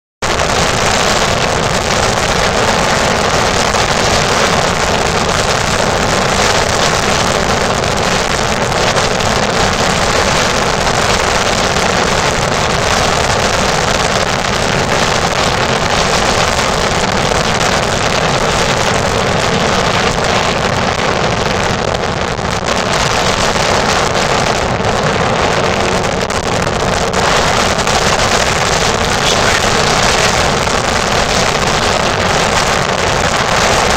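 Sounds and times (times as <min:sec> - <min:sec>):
motorboat engine running: 0:00.2 - 0:33.9
wind buffeting microphone: 0:00.2 - 0:33.9.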